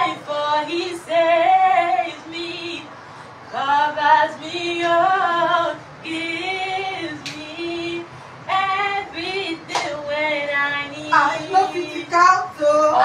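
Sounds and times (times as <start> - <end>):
women and children singing: 0.0 - 13.0.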